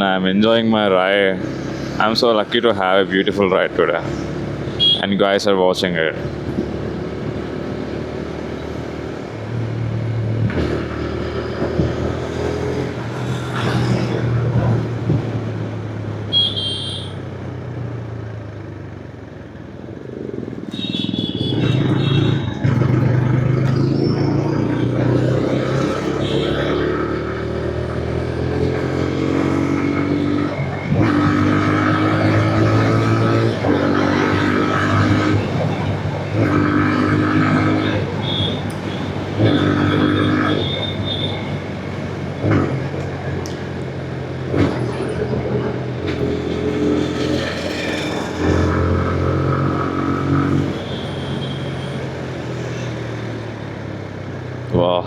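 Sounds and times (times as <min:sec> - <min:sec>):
motorcycle engine shifting gears: 0:06.2 - 0:16.8, 0:17.5 - 0:54.7.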